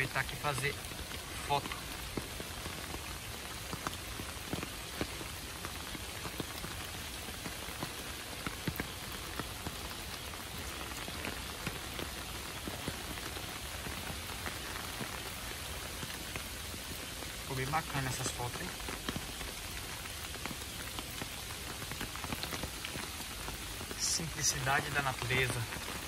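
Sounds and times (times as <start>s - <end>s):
raindrops ticking close by: 0.0s - 26.0s
steady rain hiss: 0.0s - 26.0s.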